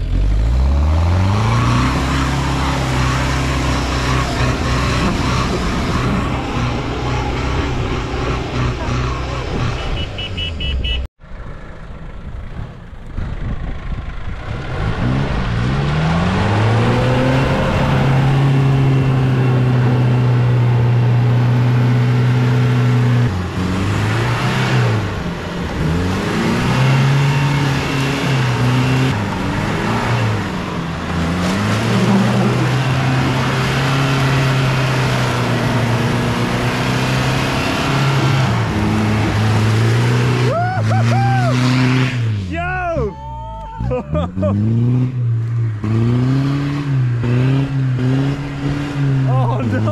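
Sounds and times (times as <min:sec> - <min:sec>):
engine revving hard: 0:00.2 - 0:10.1, 0:14.4 - 0:42.8, 0:43.9 - 0:49.9.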